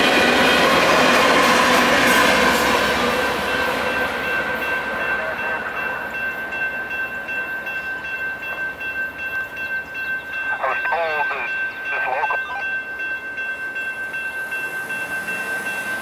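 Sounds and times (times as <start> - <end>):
crossing bells ringing: 0.0 - 16.0
freight train wheel and rail noise: 0.0 - 16.0.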